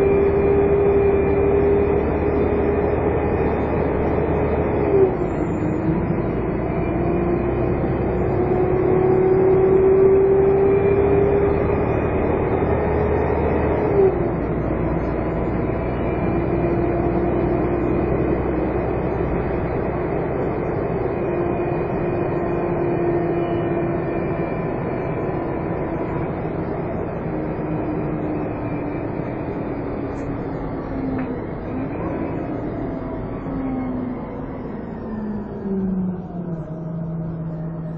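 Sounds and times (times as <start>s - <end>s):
bus engine whine: 0.0s - 37.9s.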